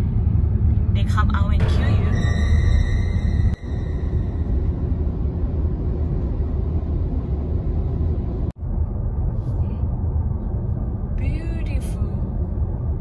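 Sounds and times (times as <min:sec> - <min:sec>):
road rumble inside car: 0:00.0 - 0:01.9, 0:03.5 - 0:13.0.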